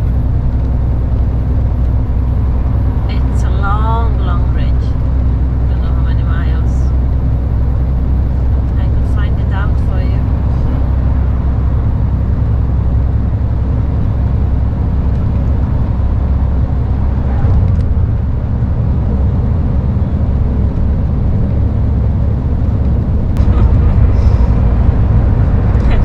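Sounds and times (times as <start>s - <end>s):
lorry diesel engine drone: 0.0s - 26.0s
road noise: 0.0s - 26.0s.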